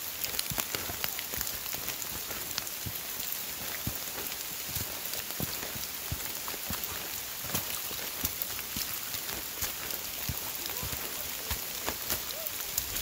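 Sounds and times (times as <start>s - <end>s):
steady rain hiss: 0.0s - 13.0s
sharp raindrop taps: 0.1s - 13.0s.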